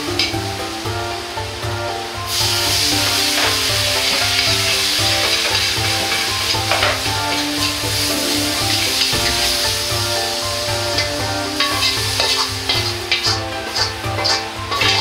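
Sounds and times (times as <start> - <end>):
sauce sizzling in a wok: 0.0 - 15.0
ladle scraping a wok: 1.9 - 15.0.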